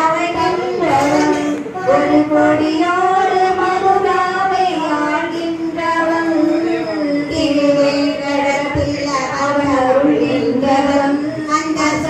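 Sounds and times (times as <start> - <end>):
woman singing devotional song: 0.0 - 12.0.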